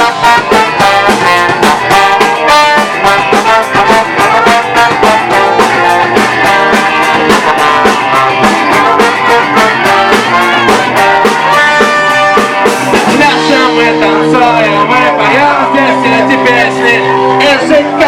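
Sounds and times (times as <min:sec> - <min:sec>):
steady drum beat: 0:00.0 - 0:17.9
electric guitar: 0:00.0 - 0:18.0.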